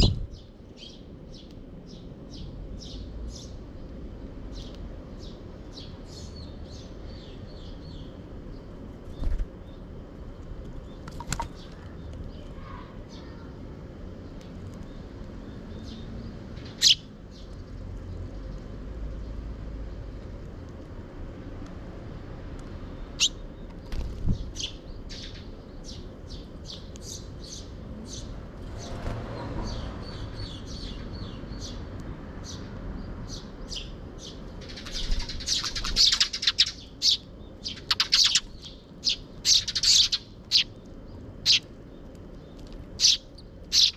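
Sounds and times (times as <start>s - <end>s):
sparrows chirping: 0.0s - 21.2s, 21.9s - 43.9s.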